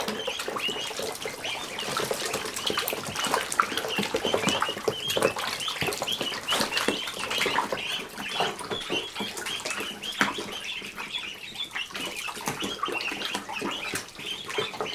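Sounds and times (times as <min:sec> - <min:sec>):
ducklings peeping: 0:00.0 - 0:14.9
ducklings splashing in water: 0:00.0 - 0:14.9.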